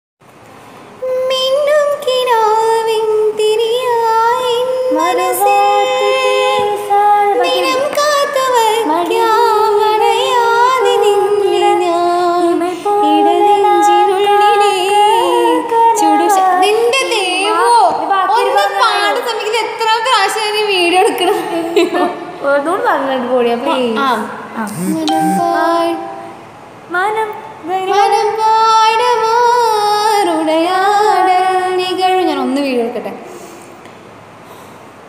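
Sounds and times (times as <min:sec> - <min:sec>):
woman singing: 0:01.0 - 0:22.1, 0:23.6 - 0:33.0.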